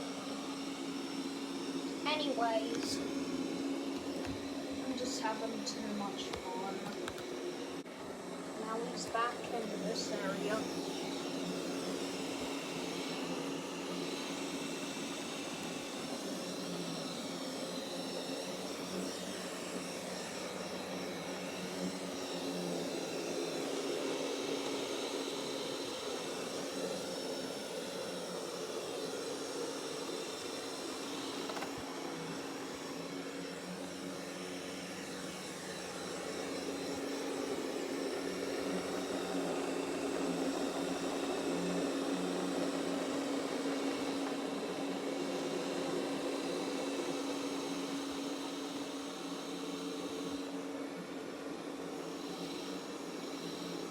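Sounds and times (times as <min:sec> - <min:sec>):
robot vacuum whirring: 0:00.0 - 0:53.9.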